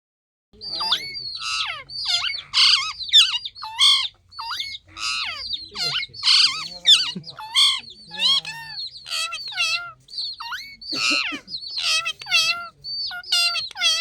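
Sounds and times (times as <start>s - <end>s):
parrot squawking: 0.6s - 14.0s.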